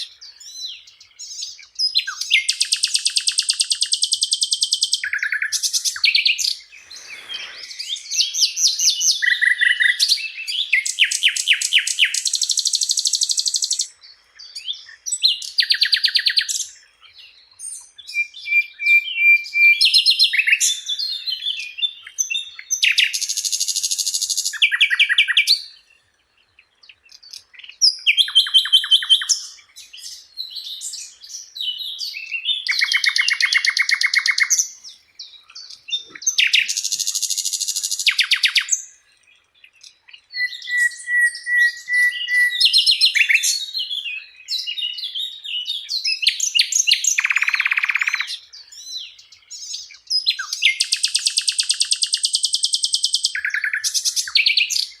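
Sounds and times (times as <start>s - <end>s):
flycatcher singing: 0.0s - 26.0s, 26.8s - 55.0s.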